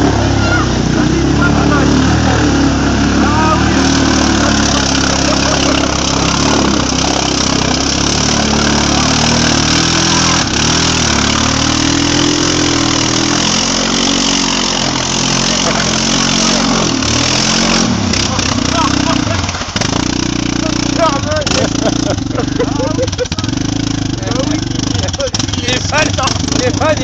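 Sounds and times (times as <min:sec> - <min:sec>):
quad engine revving: 0:00.0 - 0:27.0.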